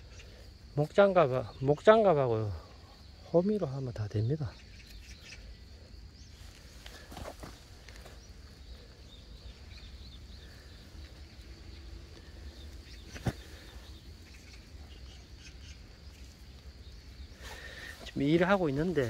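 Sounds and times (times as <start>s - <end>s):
birds chirping: 0.0s - 19.0s
high insect-like trill: 0.0s - 19.0s.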